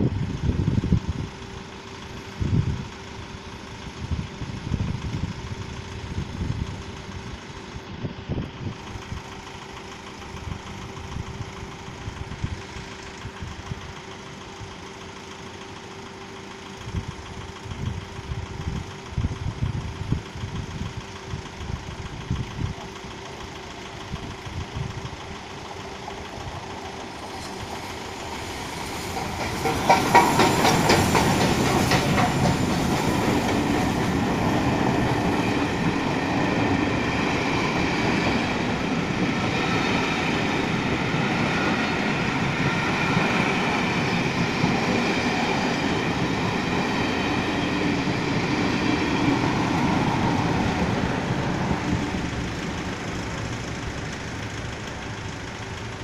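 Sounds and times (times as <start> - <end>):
train wheels rumbling on rails: 0.0 - 56.0
wheels clicking over rail joints: 8.8 - 56.0.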